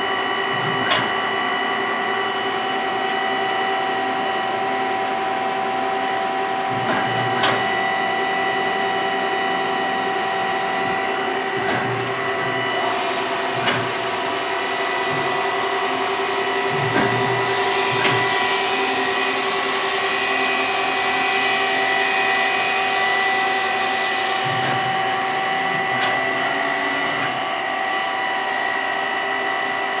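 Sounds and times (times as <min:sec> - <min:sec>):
lathe machine whine: 0:00.0 - 0:30.0.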